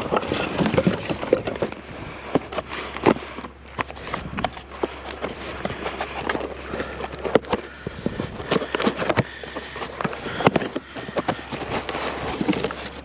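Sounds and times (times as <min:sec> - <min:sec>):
low steady hum: 0:00.0 - 0:13.0
scrap metal clattering: 0:00.0 - 0:13.0.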